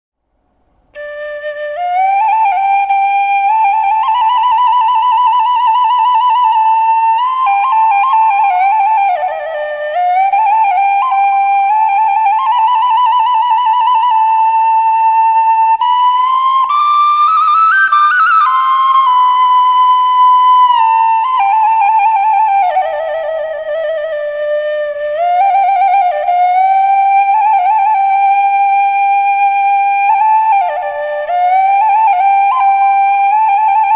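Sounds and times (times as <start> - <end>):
solo flute melody: 0.9 - 33.9.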